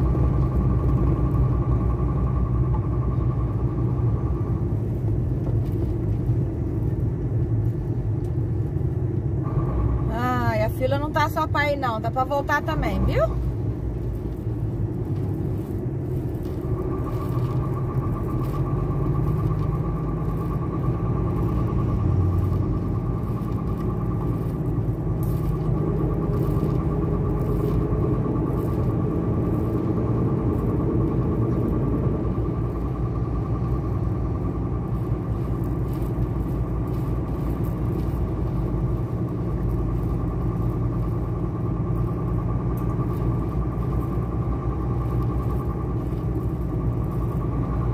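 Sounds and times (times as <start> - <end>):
engine and road rumble: 0.0 - 47.9.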